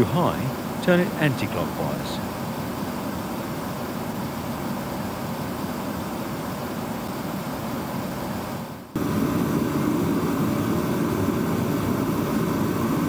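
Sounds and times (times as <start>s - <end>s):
space heater fan rushing: 0.0s - 13.0s.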